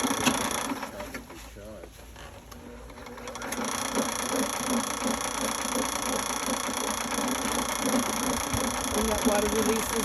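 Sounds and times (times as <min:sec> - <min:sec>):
drain-cleaning machine running: 0:00.0 - 0:01.2, 0:02.5 - 0:10.0.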